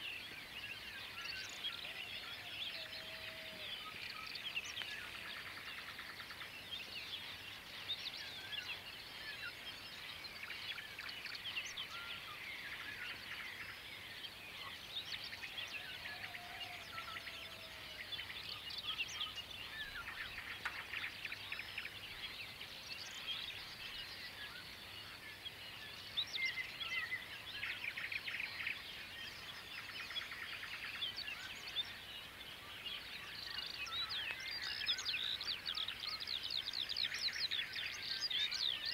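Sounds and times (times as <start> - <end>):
many birds chirping and trilling: 0.0 - 38.9.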